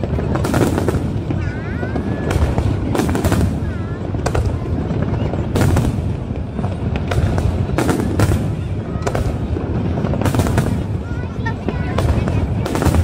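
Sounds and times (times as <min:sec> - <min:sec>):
fireworks sharp bangs: 0:00.0 - 0:13.0.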